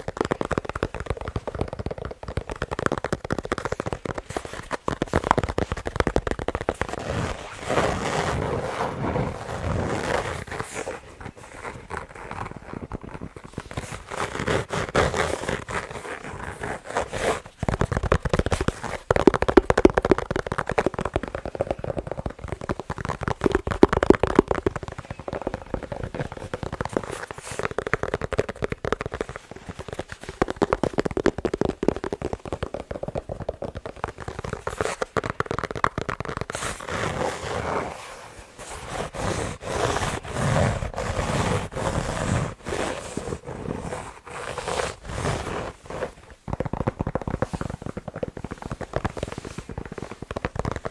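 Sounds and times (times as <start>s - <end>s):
fingers tapping fast on balls: 0.0s - 8.6s, 9.3s - 50.9s.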